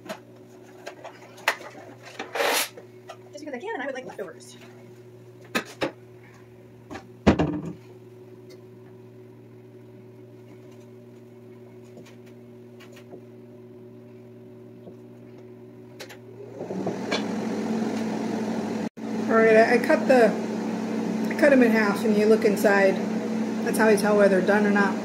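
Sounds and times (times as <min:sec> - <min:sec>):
kitchen appliance hum: 0:00.0 - 0:25.0.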